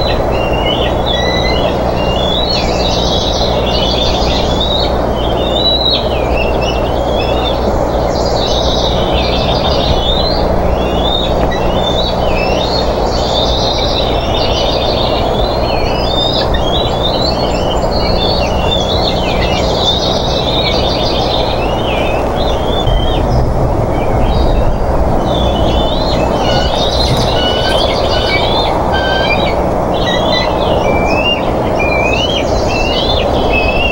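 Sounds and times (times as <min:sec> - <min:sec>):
birds chirping and trilling: 0:00.0 - 0:33.9
microphone hum and hiss: 0:06.0 - 0:33.9.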